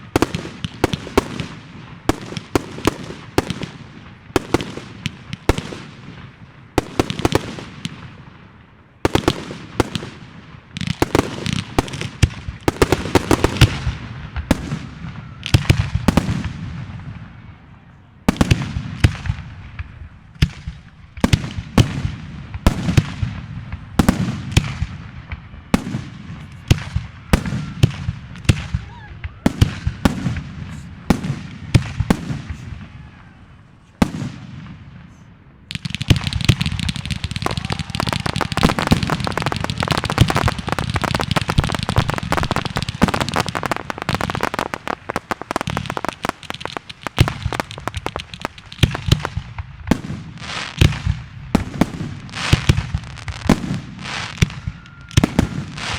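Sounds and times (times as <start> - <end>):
fireworks bangs and crackle: 0.0 - 55.9.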